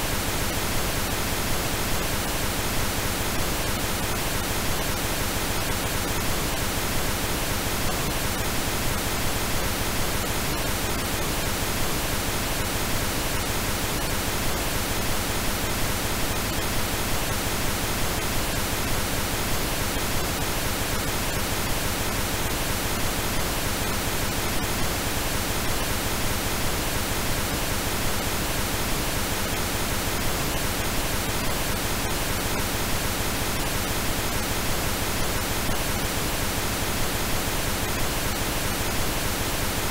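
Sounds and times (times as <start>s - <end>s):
steady pink noise: 0.0s - 39.9s.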